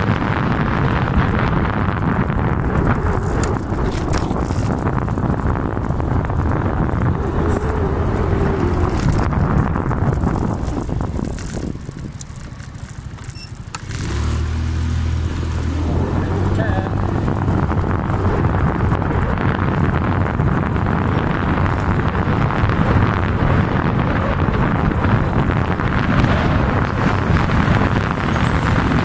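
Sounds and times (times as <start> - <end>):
low engine hum: 0.0 - 29.0
vehicle engine and road noise: 0.0 - 29.0
wind buffeting microphone: 0.0 - 29.0.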